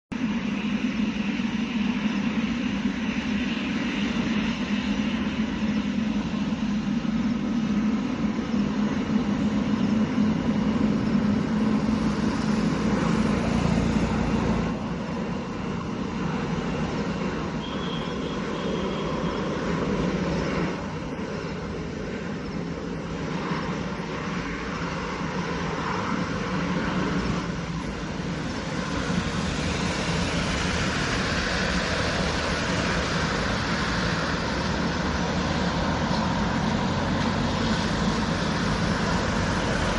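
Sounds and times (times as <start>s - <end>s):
jet engine roar: 0.1s - 39.9s.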